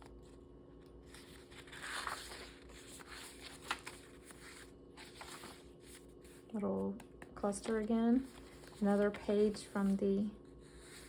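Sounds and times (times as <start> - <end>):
faint steady hum: 0.0 - 11.0
paper rustling: 0.1 - 11.0.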